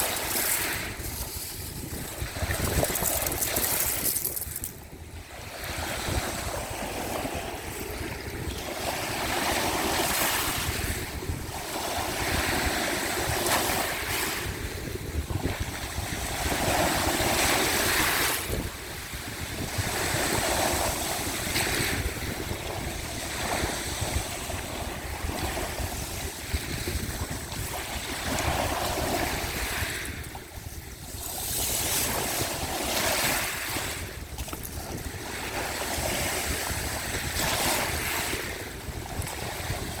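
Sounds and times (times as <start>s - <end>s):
sea waves washing onto shore: 0.0s - 40.0s
wind rumbling on microphone: 0.0s - 40.0s.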